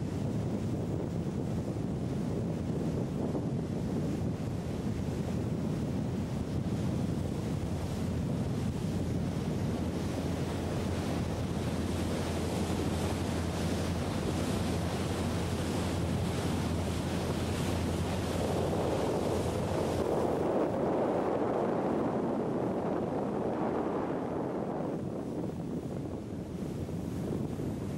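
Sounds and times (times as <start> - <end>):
motor boat engine drone: 0.0 - 27.9
rush of spray and water: 0.0 - 27.9
wind buffeting microphone: 0.0 - 27.9.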